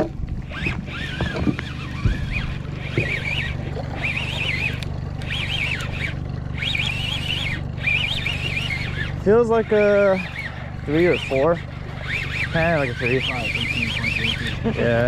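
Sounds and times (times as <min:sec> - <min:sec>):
outboard motor droning: 0:00.0 - 0:15.0
high wavering squeak: 0:00.4 - 0:14.8.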